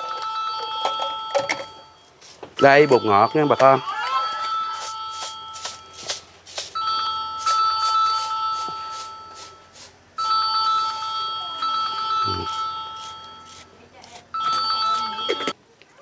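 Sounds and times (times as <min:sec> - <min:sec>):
phone ringtone: 0:00.0 - 0:15.6.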